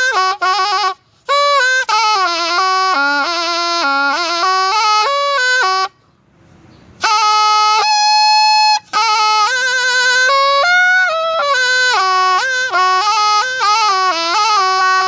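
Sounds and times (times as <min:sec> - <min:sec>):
reed oboe solo melody: 0:00.0 - 0:06.0, 0:07.0 - 0:15.0.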